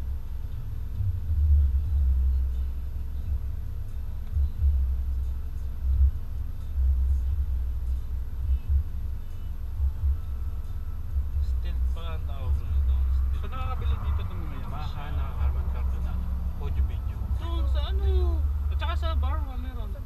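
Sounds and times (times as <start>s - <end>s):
faint steady hum: 0.0s - 20.0s
low rumble inside car cabin: 0.0s - 20.0s.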